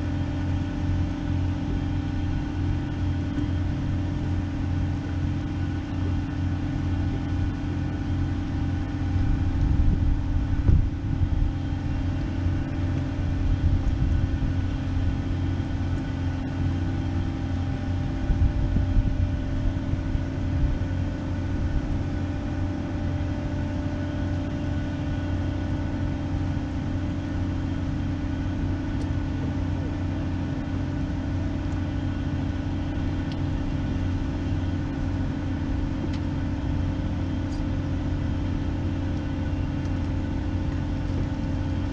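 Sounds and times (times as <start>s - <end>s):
diesel machinery droning: 0.0s - 41.9s
wind rumble on microphone: 0.0s - 41.9s.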